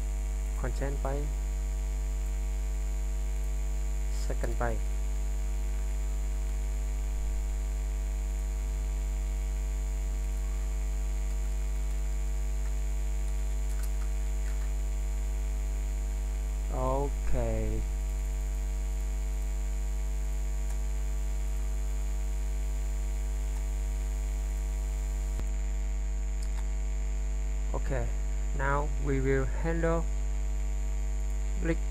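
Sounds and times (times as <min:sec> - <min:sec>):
electrical mains hum: 0:00.0 - 0:31.9.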